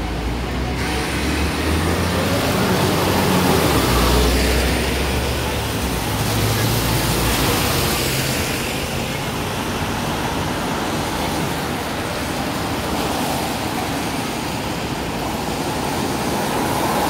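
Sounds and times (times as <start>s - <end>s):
hiss of passing vehicles: 0.0s - 17.0s.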